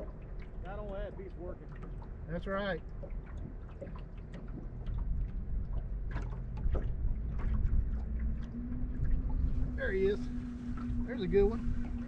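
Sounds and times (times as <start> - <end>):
boat engine low rumble: 0.0 - 12.0
steady low hum: 0.0 - 12.0.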